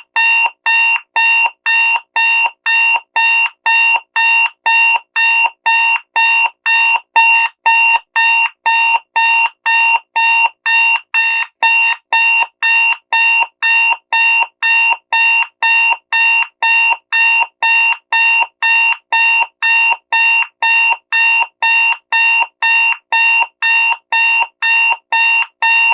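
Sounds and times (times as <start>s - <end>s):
alarm clock beeping: 0.2s - 25.9s.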